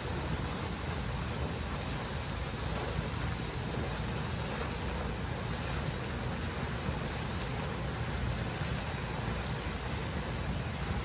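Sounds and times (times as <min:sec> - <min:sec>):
geyser water rushing: 0:00.0 - 0:11.0.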